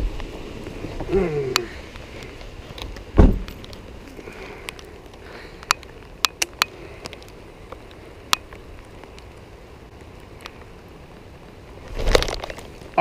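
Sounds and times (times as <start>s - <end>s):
rain on pond and leaves: 0.0s - 13.0s.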